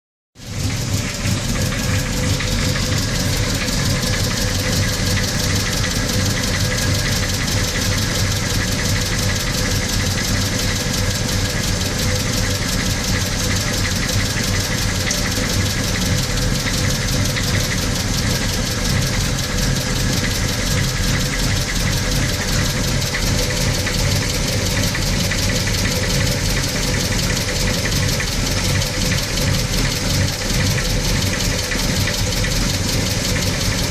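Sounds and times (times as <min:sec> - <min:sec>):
car engine running: 0:00.4 - 0:33.9
rapid regular engine ticking: 0:00.4 - 0:33.9.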